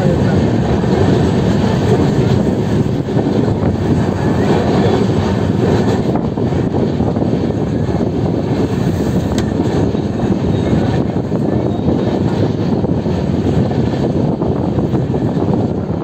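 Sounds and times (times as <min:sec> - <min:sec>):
train wheels rumbling on track: 0:00.0 - 0:16.0
rush of air: 0:00.4 - 0:16.0.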